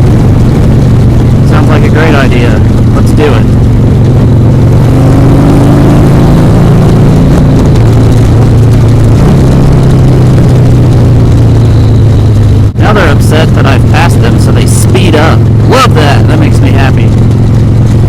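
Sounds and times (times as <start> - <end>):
motorcycle engine at road speed: 0.0 - 18.0.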